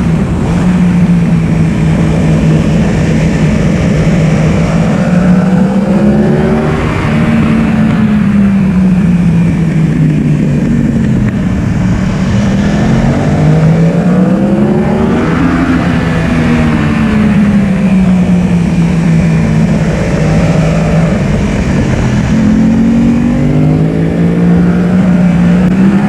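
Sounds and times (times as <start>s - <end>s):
motorcycle engine accelerating: 0.0s - 26.0s
wind rushing past microphone: 0.0s - 26.0s.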